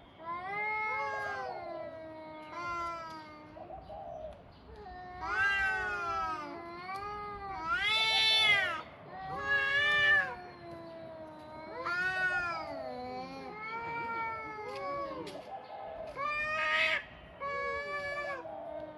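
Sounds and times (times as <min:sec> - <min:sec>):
cats yowling: 0:00.2 - 0:03.8, 0:04.8 - 0:15.4, 0:16.2 - 0:18.9.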